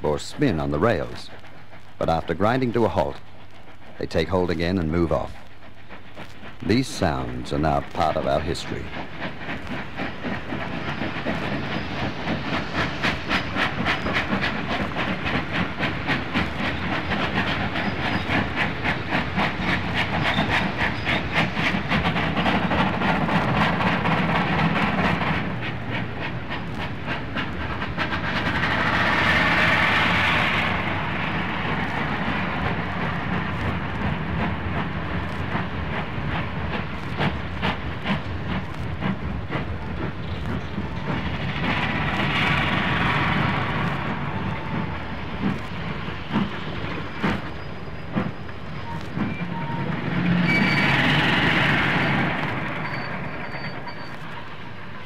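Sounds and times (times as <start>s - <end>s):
hiss of steam and exhaust: 0.0s - 55.0s
steam locomotive working hard: 0.0s - 55.0s.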